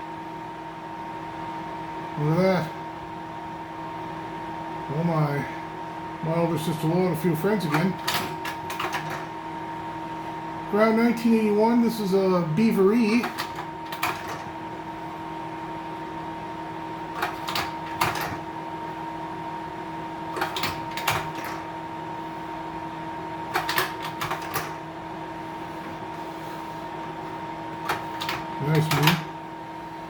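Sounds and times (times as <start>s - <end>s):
slide projector fan humming: 0.0s - 30.0s.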